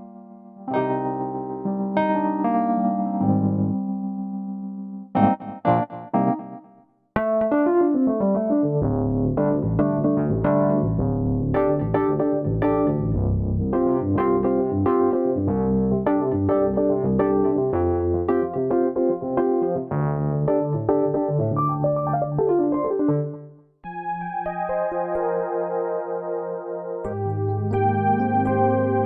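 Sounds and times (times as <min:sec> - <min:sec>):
electric piano chords: 0:00.0 - 0:29.0
overdriven electric piano: 0:00.0 - 0:29.0.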